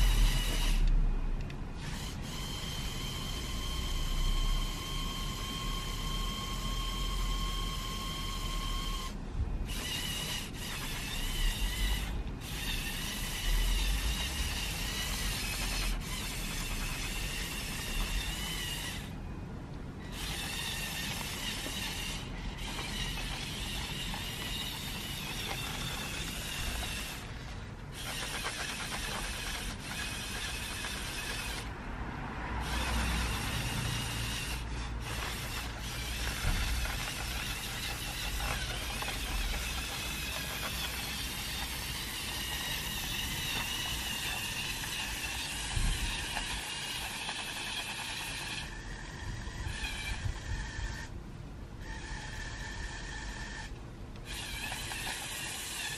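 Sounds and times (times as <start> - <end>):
toy electric motors whining: 0.0 - 19.3, 20.0 - 51.2, 51.8 - 55.9.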